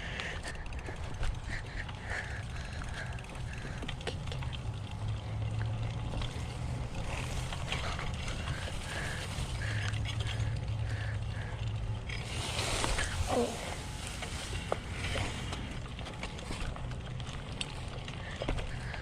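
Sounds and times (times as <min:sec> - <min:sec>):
bicycle tyres on muddy trail: 0:00.0 - 0:19.0.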